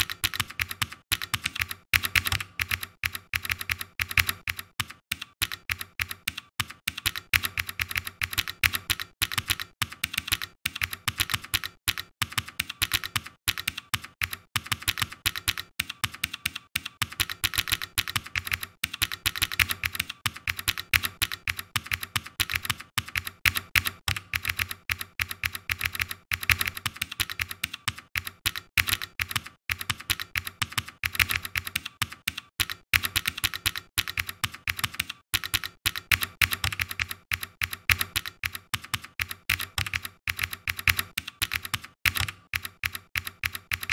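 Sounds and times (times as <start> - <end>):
keyboard typing: 0.0 - 43.9.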